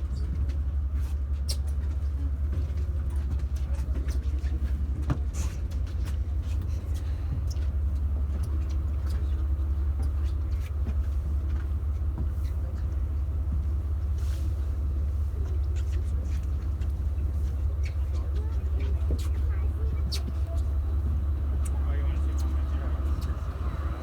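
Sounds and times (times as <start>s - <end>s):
boat engines droning: 0.0s - 24.0s.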